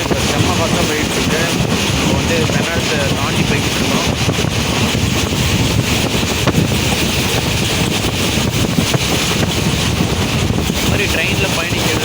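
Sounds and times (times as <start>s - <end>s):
train wheels on track: 0.0s - 12.0s
wind buffeting microphone: 0.0s - 12.0s.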